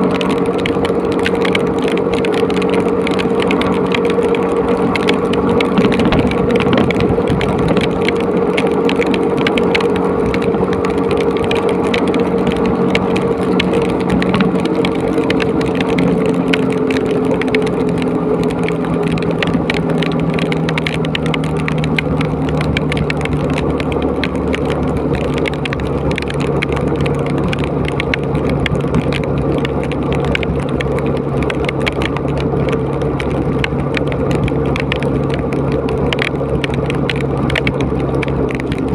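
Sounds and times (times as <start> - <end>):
motorcycle engine running: 0.0 - 38.9
rain spattering on microphone: 0.0 - 38.9
wind rushing over microphone: 0.0 - 38.9.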